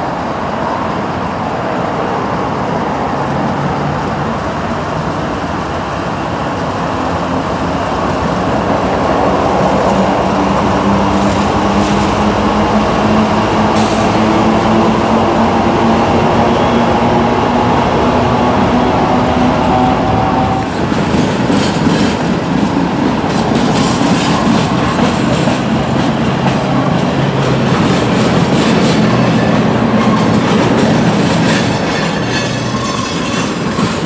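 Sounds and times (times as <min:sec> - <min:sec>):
diesel locomotive engines droning: 0:00.0 - 0:34.0
freight cars rolling: 0:03.4 - 0:34.0.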